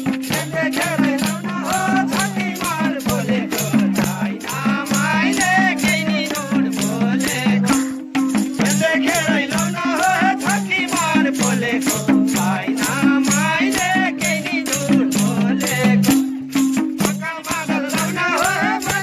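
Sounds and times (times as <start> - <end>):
hand drums in folk rhythm: 0.0 - 19.0
voices singing folk song: 0.0 - 19.0.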